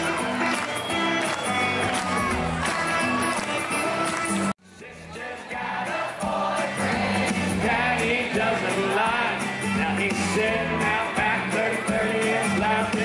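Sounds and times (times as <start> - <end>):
live country band playing: 0.0 - 4.5, 5.1 - 13.0.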